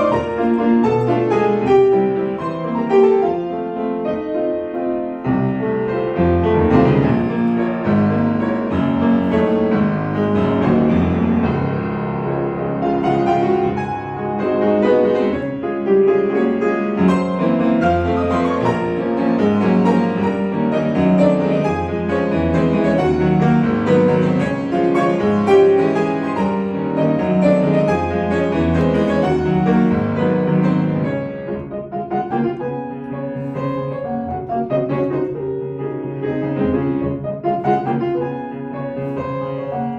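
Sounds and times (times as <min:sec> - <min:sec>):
solo classical piano: 0:00.0 - 0:39.9.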